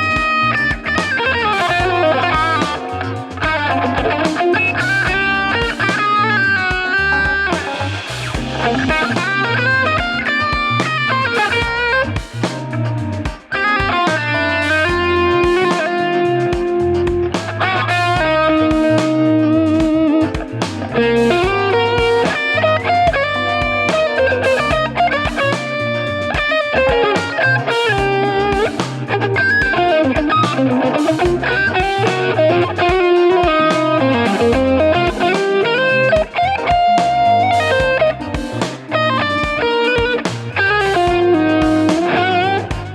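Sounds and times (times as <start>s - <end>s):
electric guitar lead line: 0.0s - 42.9s
repeating low bass pattern: 0.0s - 42.9s.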